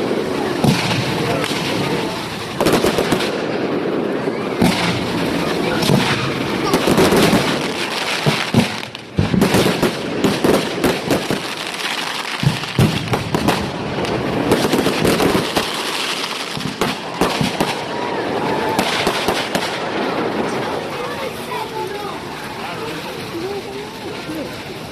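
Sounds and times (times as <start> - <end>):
fireworks bangs and crackling: 0.0 - 24.9.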